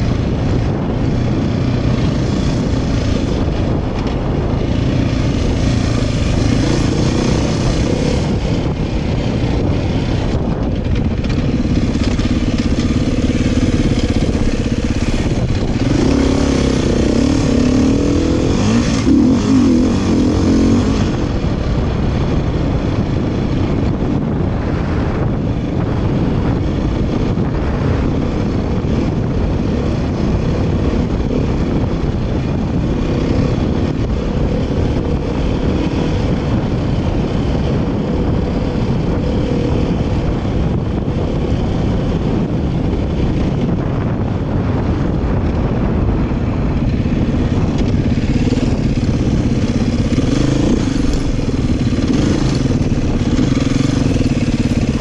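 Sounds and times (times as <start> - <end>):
dirt bike engine revving: 0.0 - 23.2, 26.5 - 55.0
wind rumble on microphone: 0.0 - 55.0.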